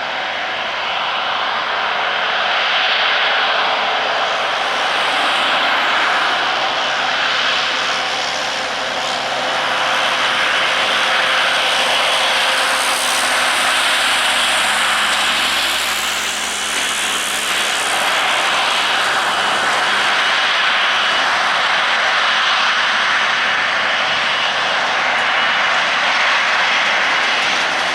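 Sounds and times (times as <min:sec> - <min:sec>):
jet engines running: 0:00.0 - 0:27.9.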